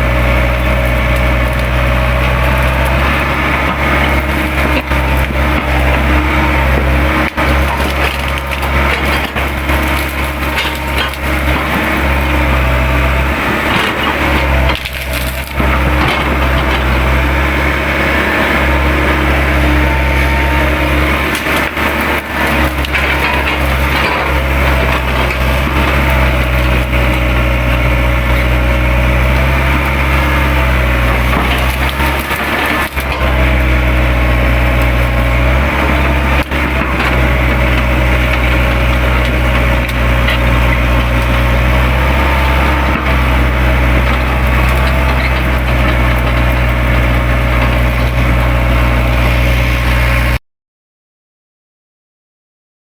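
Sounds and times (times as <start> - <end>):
excavator diesel engine running: 0.0 - 50.4
branches cracking and splintering: 0.4 - 50.3.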